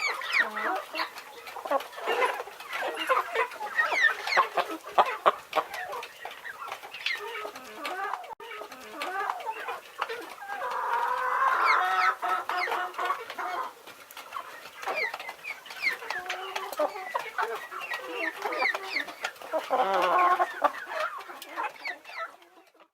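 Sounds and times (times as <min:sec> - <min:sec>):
chickens clucking: 0:00.0 - 0:22.9
long drawn-out chicken calls: 0:00.0 - 0:22.9.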